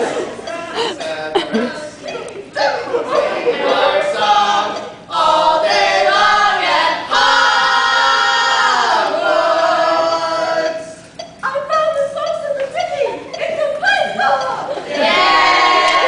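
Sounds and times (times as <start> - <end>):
voices singing a cappella: 0.0 - 11.1, 12.2 - 16.0.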